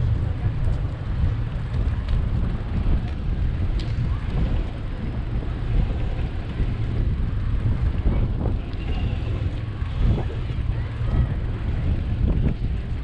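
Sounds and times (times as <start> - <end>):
road and passing traffic noise: 0.0 - 13.0
wind buffeting microphone: 0.0 - 13.0.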